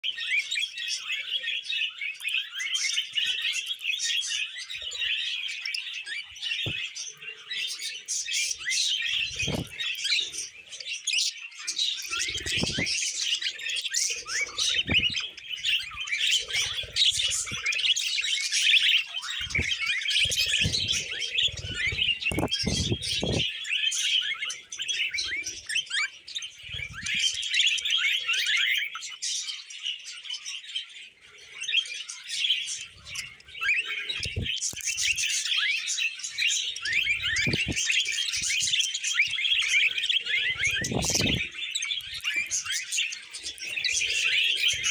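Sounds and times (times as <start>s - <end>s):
budgerigars chattering: 0.2s - 30.2s, 31.3s - 44.9s.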